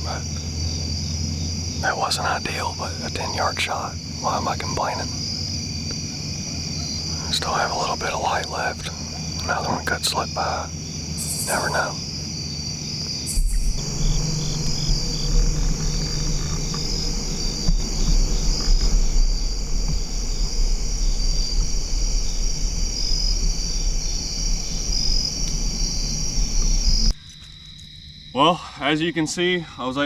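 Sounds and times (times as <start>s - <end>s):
low rumble: 0.0s - 27.2s
insects chirping: 0.0s - 30.0s.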